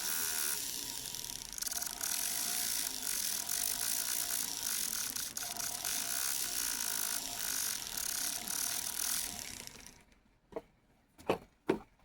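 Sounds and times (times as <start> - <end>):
rotary tool grinding metal: 0.0 - 10.1.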